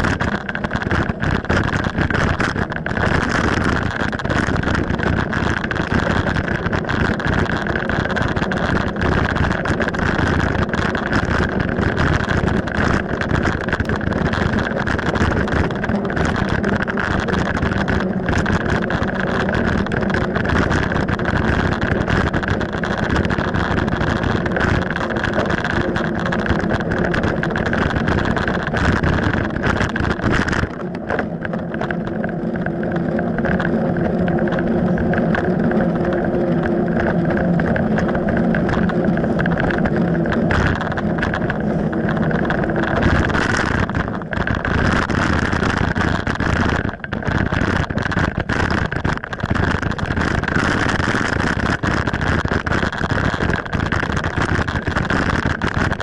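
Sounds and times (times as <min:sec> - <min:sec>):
bike rolling and rattling: 0:00.0 - 0:56.0
low hum: 0:00.0 - 0:56.0
wind rush: 0:00.0 - 0:56.0.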